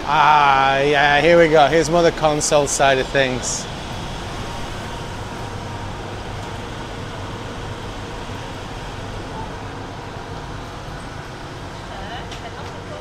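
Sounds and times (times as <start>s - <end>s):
air conditioning hum: 0.0s - 13.0s
street traffic: 0.0s - 13.0s.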